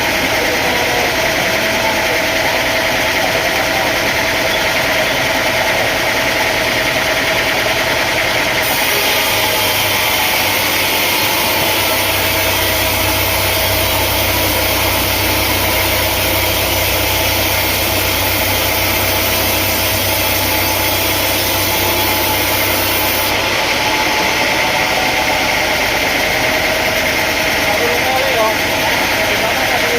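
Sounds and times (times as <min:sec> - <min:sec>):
sawmill machinery whining: 0:00.0 - 0:29.9.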